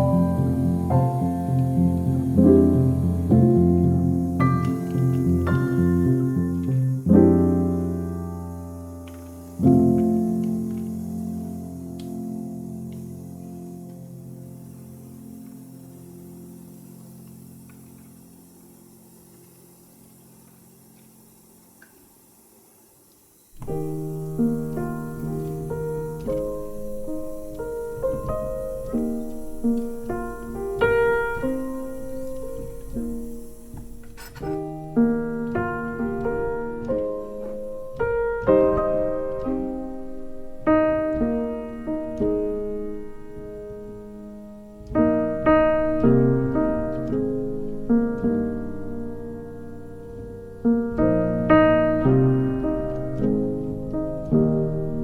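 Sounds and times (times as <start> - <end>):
piano music: 0.0 - 19.4, 23.6 - 55.0.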